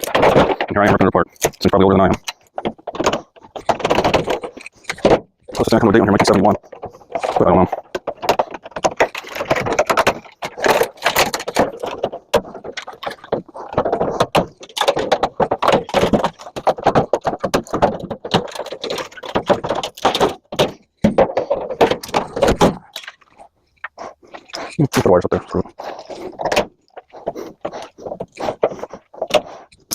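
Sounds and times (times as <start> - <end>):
metal parts rattling and clanking: 0.0 - 29.9.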